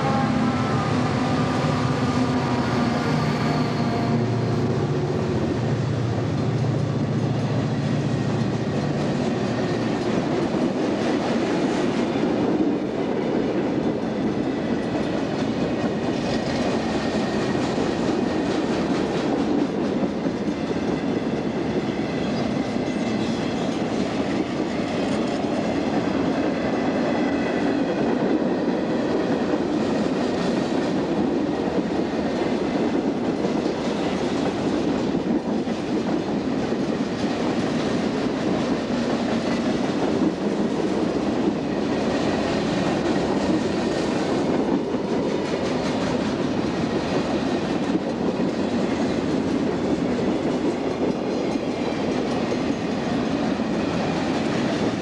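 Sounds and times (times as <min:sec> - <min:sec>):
diesel locomotive engine drone: 0:00.0 - 0:55.0
train wheels rolling on rails: 0:00.0 - 0:55.0.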